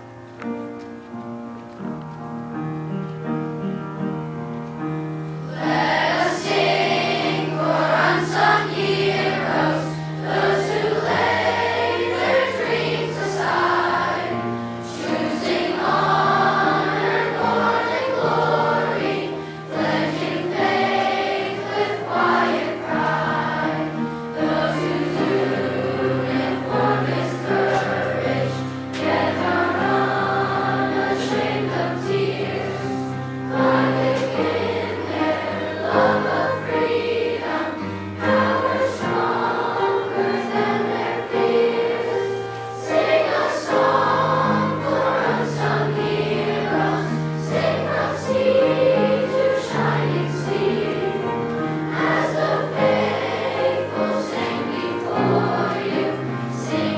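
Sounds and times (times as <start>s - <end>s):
children's choir singing: 2.9s - 56.9s.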